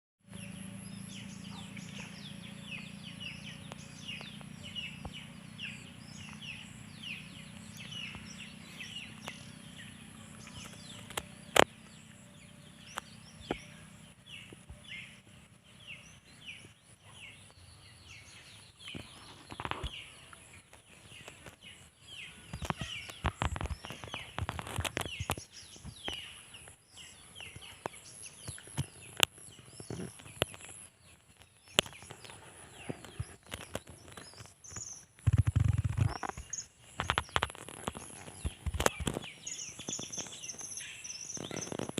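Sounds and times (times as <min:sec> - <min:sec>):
small birds chirping: 0:00.2 - 0:41.9.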